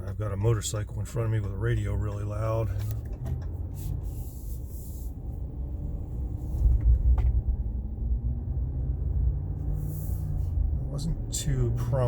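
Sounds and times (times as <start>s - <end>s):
pickup truck rumble inside cab: 0.0s - 12.0s.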